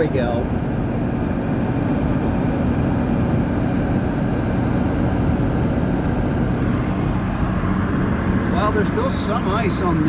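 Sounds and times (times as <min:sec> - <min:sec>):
road noise: 0:00.0 - 0:10.0
truck engine rumble: 0:00.0 - 0:10.0.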